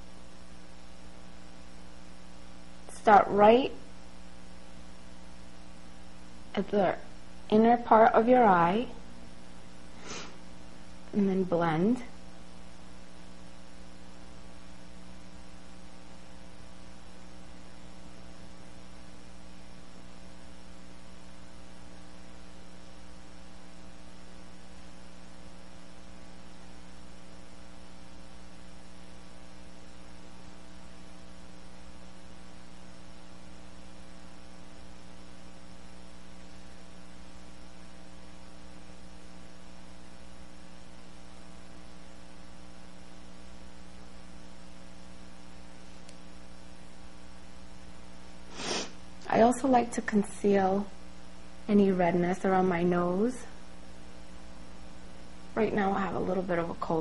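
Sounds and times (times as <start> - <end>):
electrical hum: 0.0 - 57.0
soft hiss: 0.0 - 57.0.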